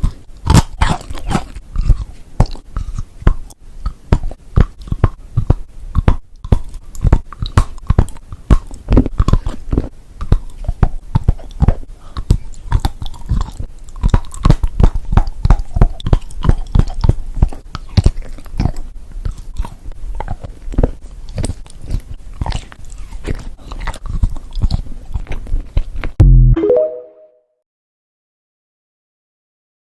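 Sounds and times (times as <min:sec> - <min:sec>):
chewing crunchy chocolate: 0:00.0 - 0:26.2.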